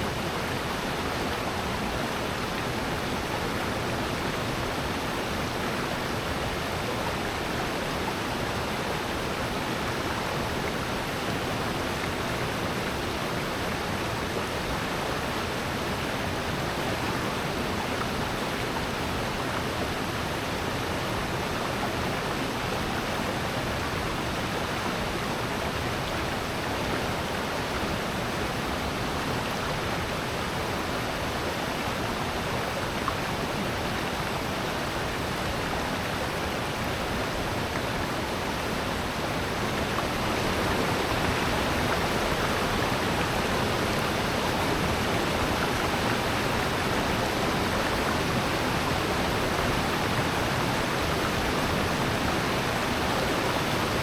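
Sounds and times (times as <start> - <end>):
stream rushing over cascades: 0.0 - 54.0.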